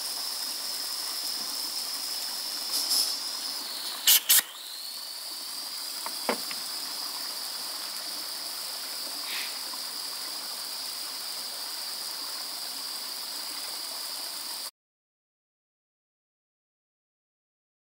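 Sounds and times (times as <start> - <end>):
high-pitched steam hiss: 0.0 - 14.7.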